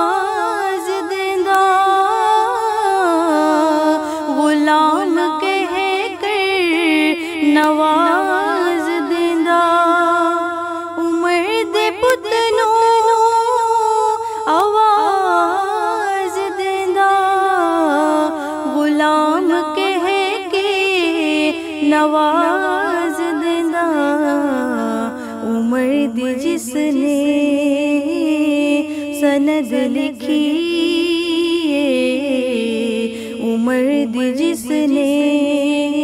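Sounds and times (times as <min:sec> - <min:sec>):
woman singing unaccompanied: 0:00.0 - 0:36.0.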